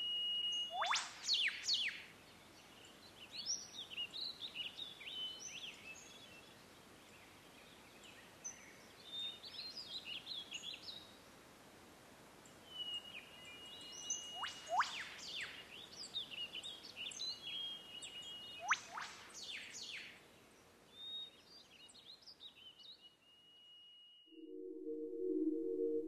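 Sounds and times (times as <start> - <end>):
faint high chirping and twittering: 0.0 - 11.2, 12.4 - 26.0.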